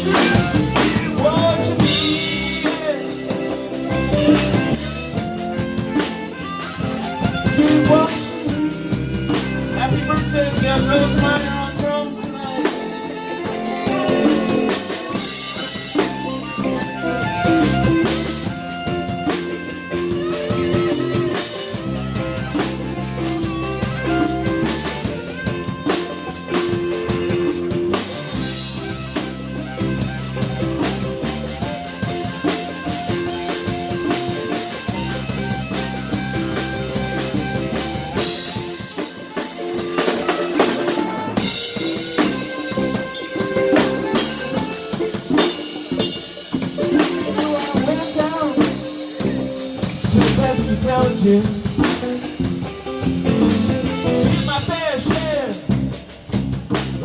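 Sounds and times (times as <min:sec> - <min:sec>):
drum kit beat: 0:00.0 - 0:57.0
instrumental live band: 0:00.0 - 0:57.0.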